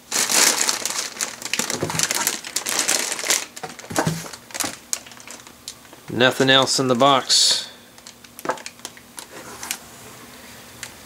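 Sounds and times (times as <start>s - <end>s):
plastic bags crinkling: 0.0s - 7.0s, 7.9s - 9.8s.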